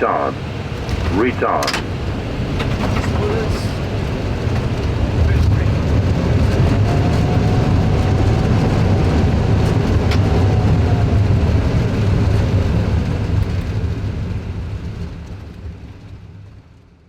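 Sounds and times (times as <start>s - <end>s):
deep rumble of engines and runway: 0.0s - 17.0s.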